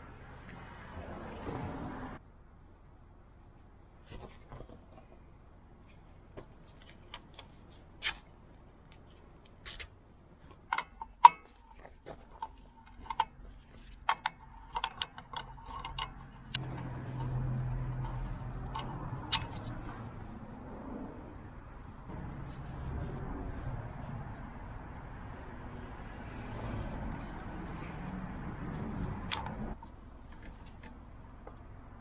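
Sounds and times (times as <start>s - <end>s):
steady low hum: 2.0s - 32.0s.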